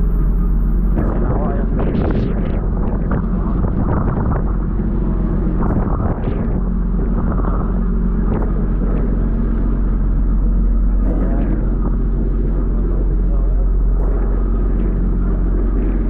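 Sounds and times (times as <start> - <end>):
boat engine humming: 0.0 - 16.0
water rushing along hull: 0.0 - 16.0.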